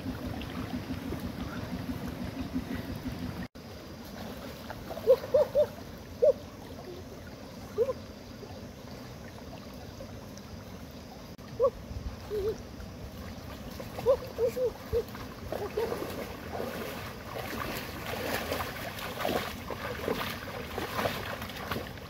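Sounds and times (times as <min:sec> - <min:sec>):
shallow river water flowing: 0:00.0 - 0:22.0.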